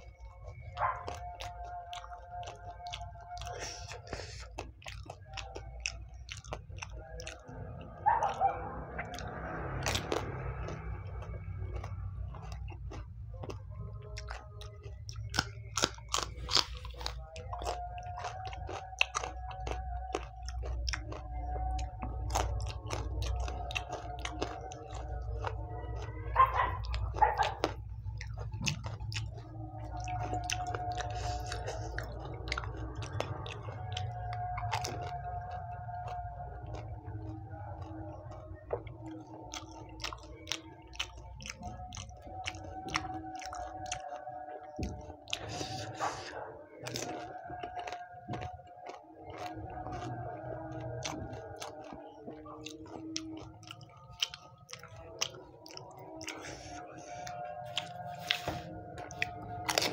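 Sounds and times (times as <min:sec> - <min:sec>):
crunching of crisp shells: 0:00.0 - 0:07.5, 0:09.2 - 0:59.9
wet chewing: 0:00.0 - 0:59.9.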